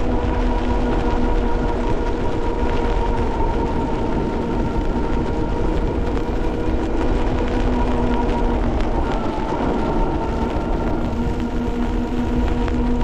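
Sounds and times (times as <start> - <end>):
electric motor whine: 0.0 - 13.0
wind rumbling on microphone: 0.0 - 13.0.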